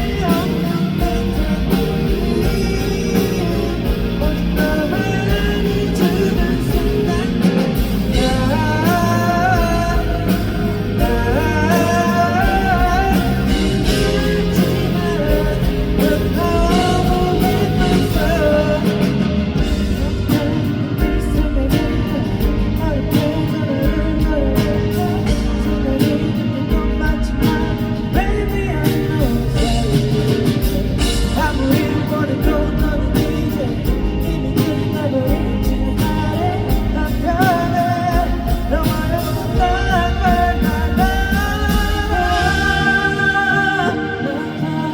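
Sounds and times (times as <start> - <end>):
drum kit beat: 0.0 - 44.9
electric guitar: 0.0 - 44.9
live rock band playing: 0.0 - 44.9
man singing: 0.0 - 44.9.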